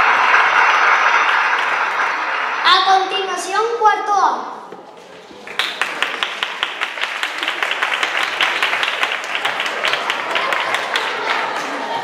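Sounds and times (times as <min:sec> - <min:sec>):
audience applauding: 0:00.0 - 0:03.0, 0:05.3 - 0:12.0.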